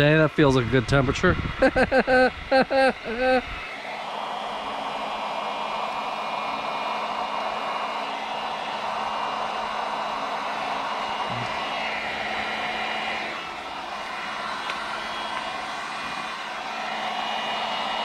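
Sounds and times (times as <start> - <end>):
faint motor hum: 0.0 - 18.0
heat gun blowing: 0.5 - 18.0.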